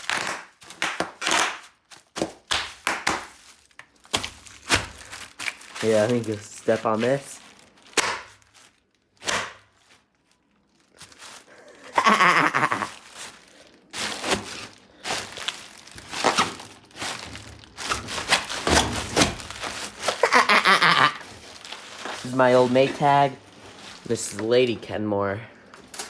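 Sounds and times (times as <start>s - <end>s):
bubble wrap crunching: 0.0s - 26.0s.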